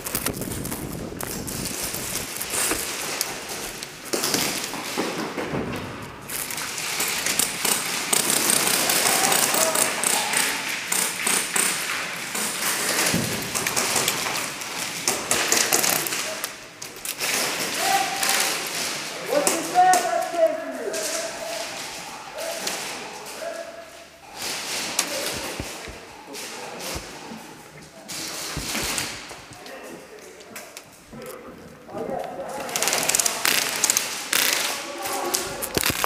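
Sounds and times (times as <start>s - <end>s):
footsteps: 0.0s - 36.0s.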